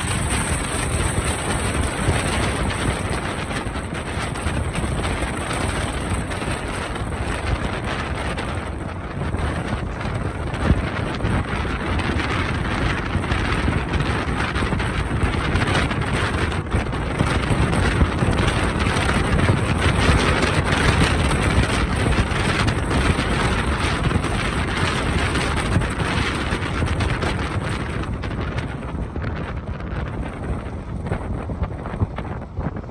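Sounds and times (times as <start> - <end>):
wind and road noise: 0.0 - 32.9
wind buffeting microphone: 0.0 - 32.9.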